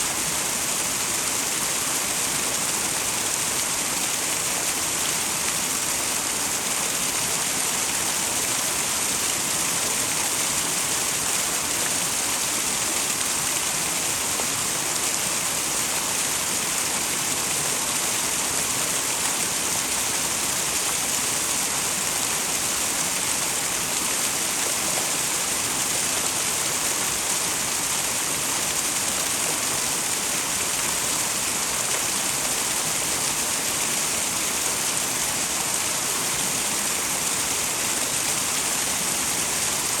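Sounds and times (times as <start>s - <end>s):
waterfall pouring and splashing: 0.0s - 40.0s.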